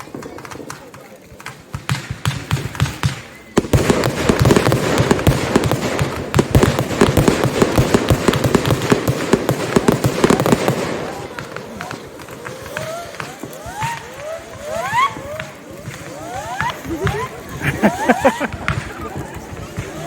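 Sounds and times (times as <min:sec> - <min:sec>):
fireworks cracking and banging: 0:00.0 - 0:20.0.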